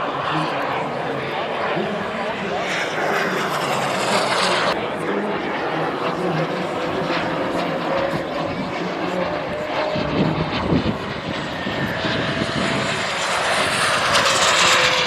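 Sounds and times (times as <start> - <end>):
model jet turbine in flight: 0.0 - 15.0.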